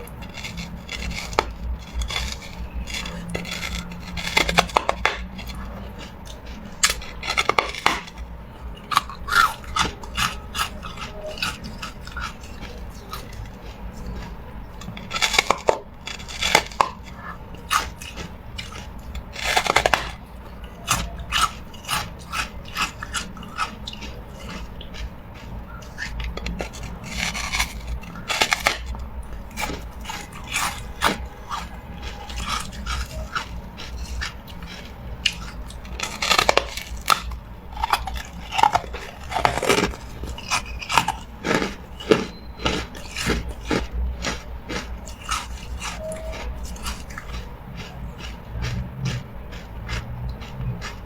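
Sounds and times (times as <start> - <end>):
ice being chewed crunching: 0.0 - 51.0.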